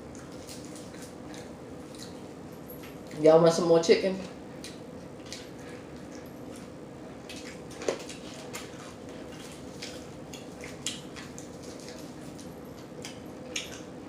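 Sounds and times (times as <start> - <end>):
chewing crunchy food: 0.0 - 3.2, 4.3 - 14.0
faint steady hum: 0.0 - 14.0.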